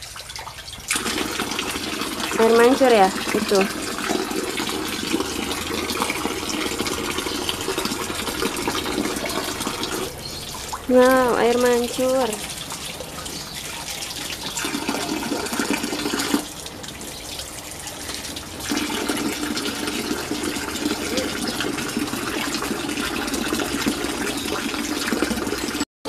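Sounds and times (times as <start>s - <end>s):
hose water splashing into pool: 0.0s - 25.8s.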